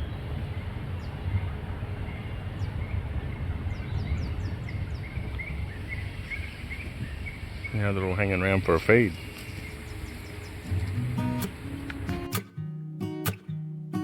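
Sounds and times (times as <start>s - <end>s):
high falling bird calls: 0.0s - 12.2s
steady low rumble: 0.0s - 12.2s
small birds chirping: 0.0s - 12.3s.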